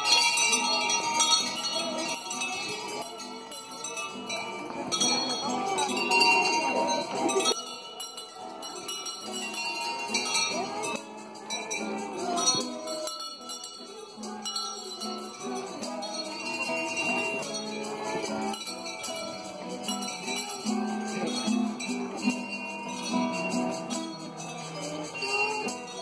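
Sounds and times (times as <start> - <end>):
bells ringing: 0.0 - 26.0
crowd voices: 0.0 - 26.0.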